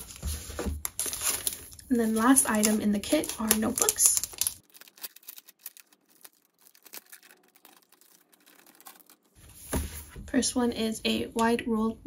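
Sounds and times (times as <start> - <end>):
paper rustling: 0.0 - 10.2.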